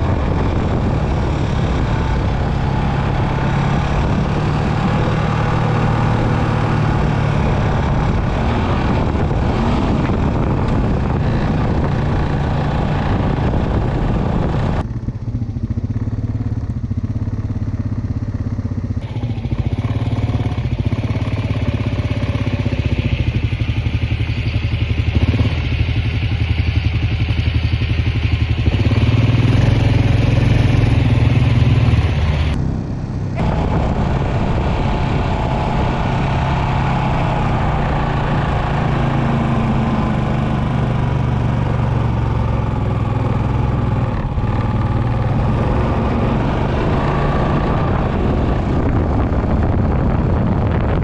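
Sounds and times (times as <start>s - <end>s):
off-road vehicle engine revving: 0.0s - 14.9s, 19.0s - 51.0s.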